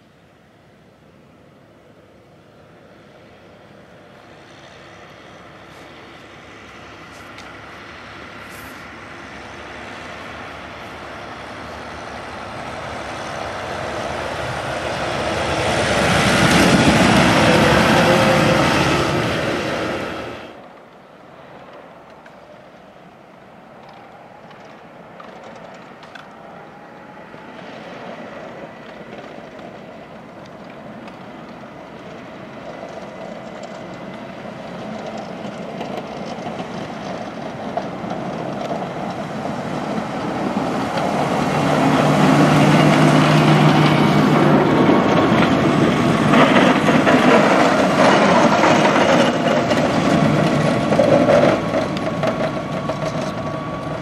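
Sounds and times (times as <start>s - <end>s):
tractor diesel engines under load: 0.0s - 54.0s
plow blades scraping snow: 2.8s - 20.6s, 27.4s - 54.0s.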